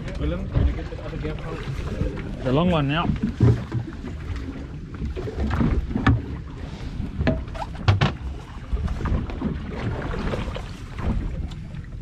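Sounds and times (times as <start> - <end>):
low rumble on microphone: 0.0 - 12.0
water noise: 0.0 - 12.0
wind: 0.0 - 12.0.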